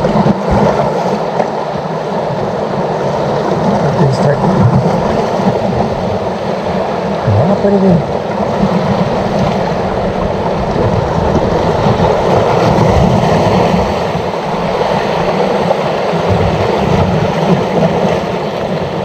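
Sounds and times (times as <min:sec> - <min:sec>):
sea water washing against rocks: 0:00.0 - 0:19.0
wind buffeting microphone: 0:00.0 - 0:19.0.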